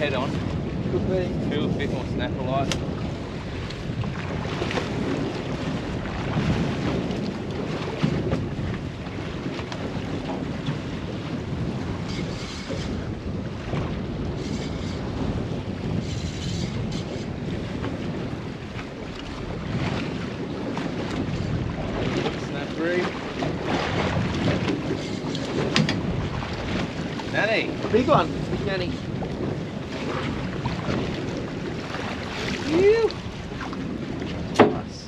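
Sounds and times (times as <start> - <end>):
water sloshing against hull: 0.0 - 35.0
wind buffeting microphone: 0.0 - 35.0.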